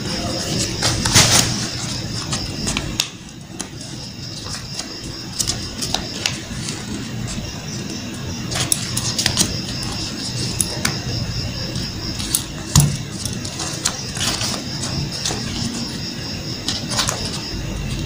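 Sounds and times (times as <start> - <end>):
paper being folded and creased: 0.0 - 16.0, 16.6 - 18.0
steady high whine: 0.0 - 18.0.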